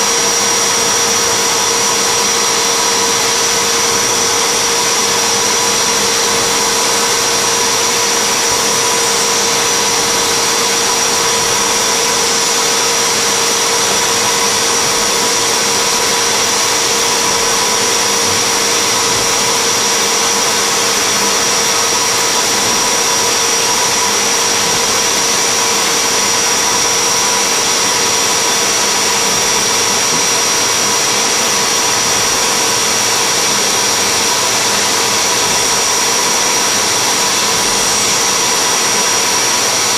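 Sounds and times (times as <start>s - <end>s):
air blower hissing: 0.0s - 39.9s
milling spindle whine: 0.0s - 39.9s.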